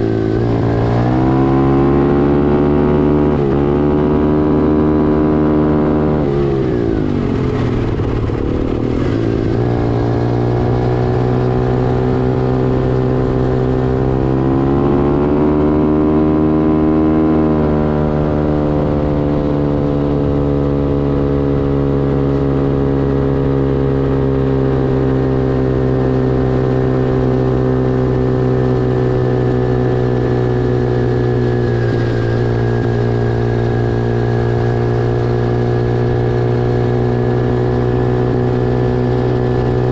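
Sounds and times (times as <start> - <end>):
pit bike engine running: 0.0 - 39.9.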